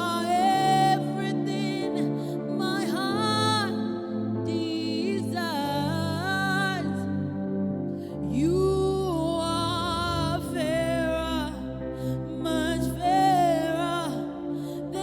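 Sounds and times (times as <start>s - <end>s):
person singing gospel: 0.0s - 7.4s, 8.1s - 15.0s
sustained accompanying chords: 0.0s - 15.0s.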